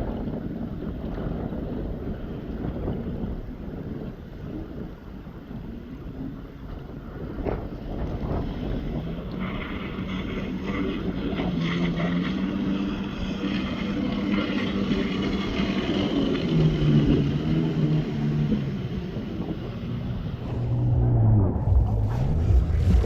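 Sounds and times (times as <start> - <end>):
jet ski engine running: 0.0 - 23.0.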